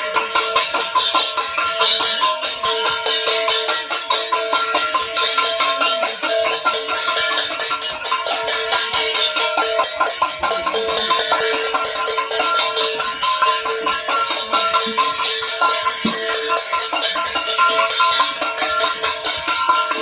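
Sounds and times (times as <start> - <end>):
rapid rattling jingle: 0.0 - 20.0
steady ringing tones: 0.0 - 20.0.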